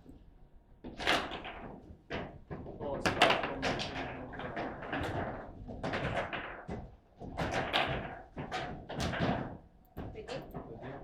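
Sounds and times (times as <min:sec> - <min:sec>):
table football knocks and clacks: 0:00.8 - 0:11.0.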